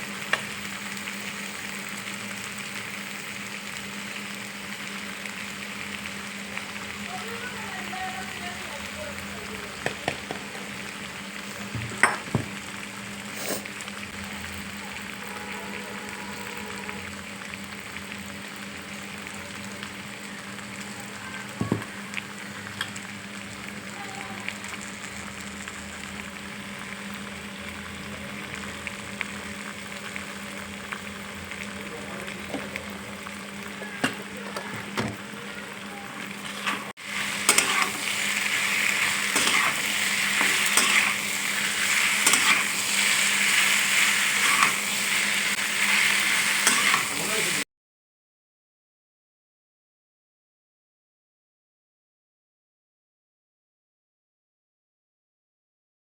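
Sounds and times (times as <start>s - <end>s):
food sizzling in hot oil: 0.0s - 47.7s.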